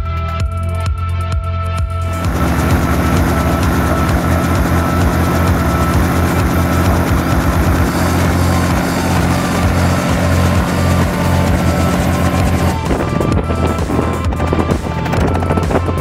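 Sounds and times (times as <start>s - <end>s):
helicopter engine and rotor drone: 2.0s - 16.0s.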